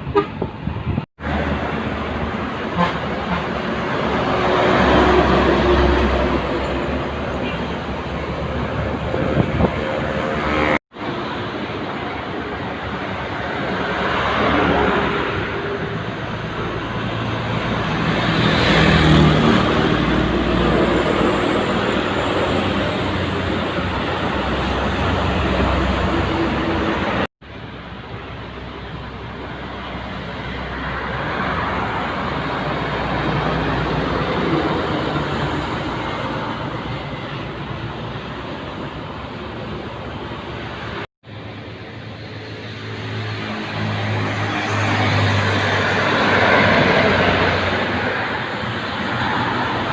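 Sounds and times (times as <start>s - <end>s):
heavy trucks passing: 0.0s - 49.9s
road traffic noise: 0.0s - 49.9s.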